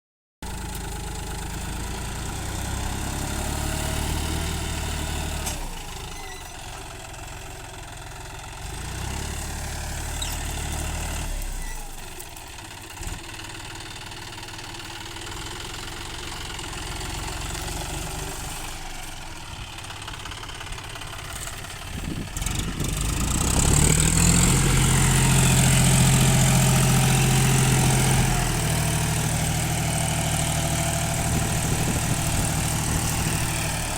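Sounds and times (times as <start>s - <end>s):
tractor diesel engine running: 0.4s - 33.9s.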